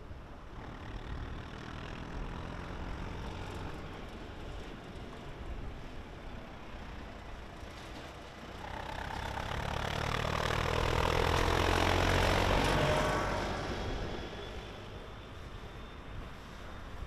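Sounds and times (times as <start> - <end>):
tractor engine passing by: 0.0 - 17.0.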